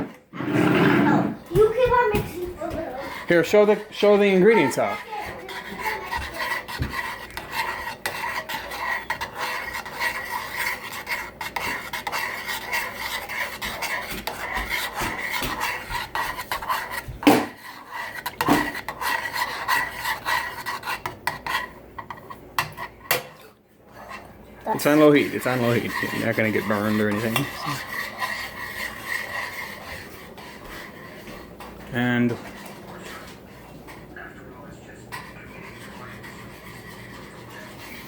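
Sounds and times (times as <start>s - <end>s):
utensil scraping a saucepan: 1.0s - 38.0s.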